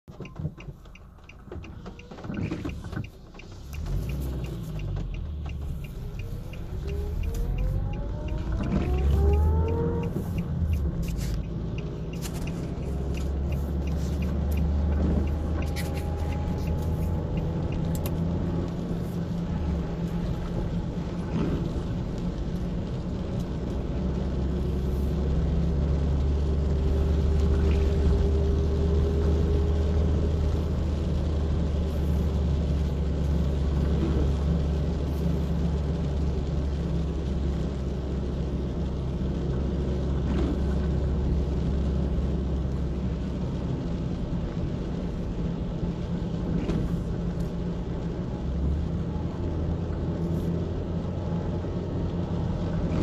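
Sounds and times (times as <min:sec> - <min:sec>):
road rumble inside car: 0:00.0 - 0:53.0
car engine accelerating: 0:00.1 - 0:53.0.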